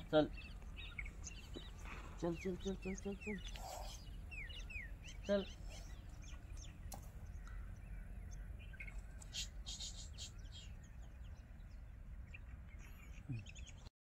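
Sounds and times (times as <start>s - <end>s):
steady low rumble: 0.0s - 13.6s
birds chirping: 0.0s - 13.9s.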